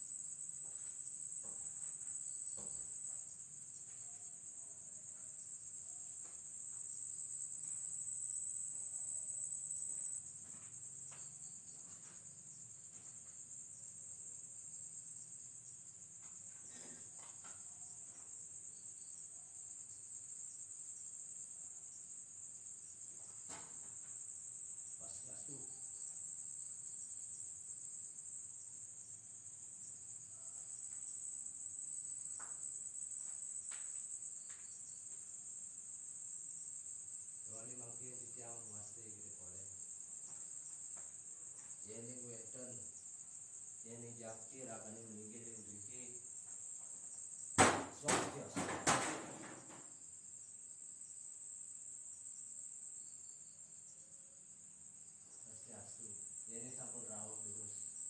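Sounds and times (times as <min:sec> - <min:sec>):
night insects chorus: 0:00.0 - 0:58.0.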